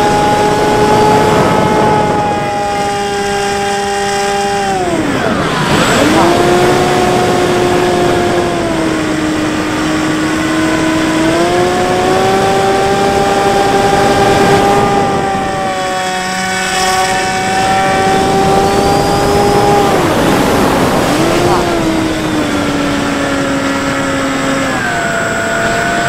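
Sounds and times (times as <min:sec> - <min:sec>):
model plane motor whining: 0:00.0 - 0:26.0.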